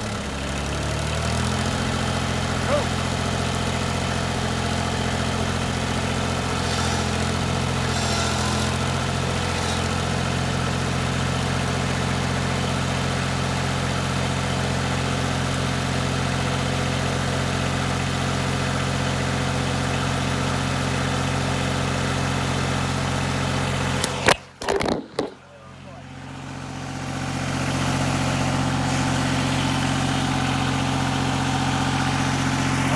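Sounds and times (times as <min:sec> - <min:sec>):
diesel tractor engine running: 0:00.0 - 0:32.9.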